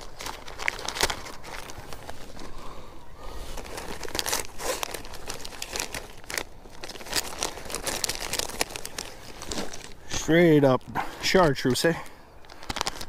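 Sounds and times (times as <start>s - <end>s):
plastic packages crinkling: 0.0s - 13.0s.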